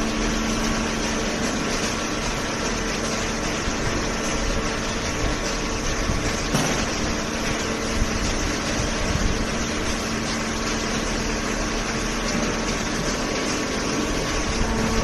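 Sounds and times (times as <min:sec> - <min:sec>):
hydraulic machine humming: 0:00.0 - 0:15.0.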